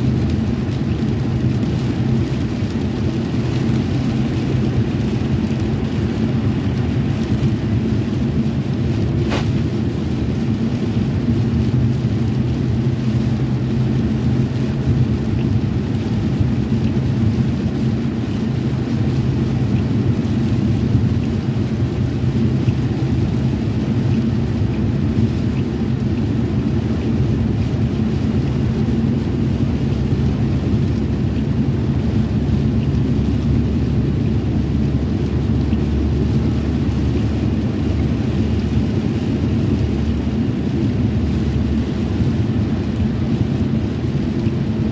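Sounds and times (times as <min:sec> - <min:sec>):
car driving interior rumble: 0:00.0 - 0:44.9.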